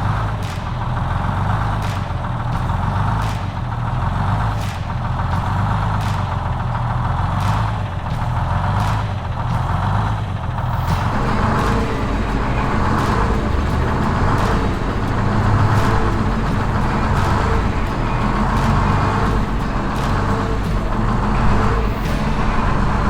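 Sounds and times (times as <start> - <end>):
bus engine running: 0.0 - 23.0
road noise: 0.0 - 23.0.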